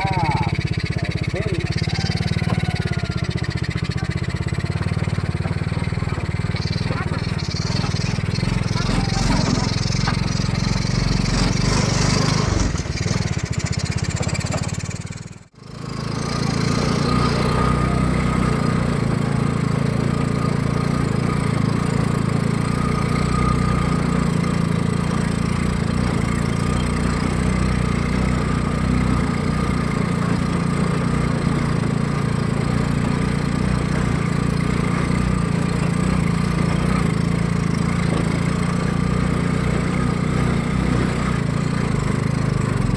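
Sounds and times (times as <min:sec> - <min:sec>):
single-cylinder engine running: 0:00.0 - 0:42.9.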